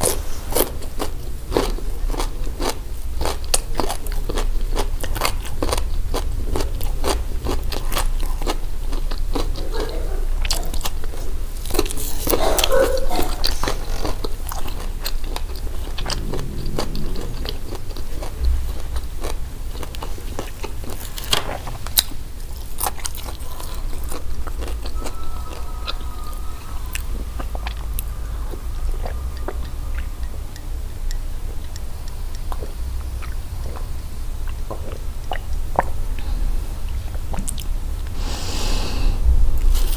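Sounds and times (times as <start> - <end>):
crisp chewing crunches: 0.0 - 36.3.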